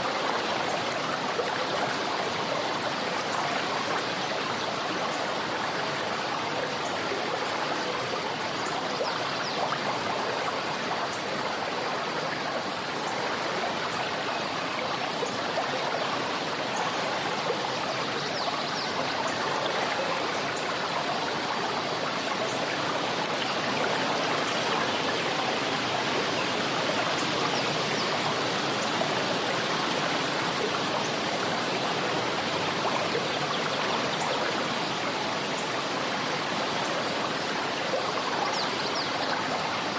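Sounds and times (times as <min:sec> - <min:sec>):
stream rushing and splashing: 0:00.0 - 0:39.9.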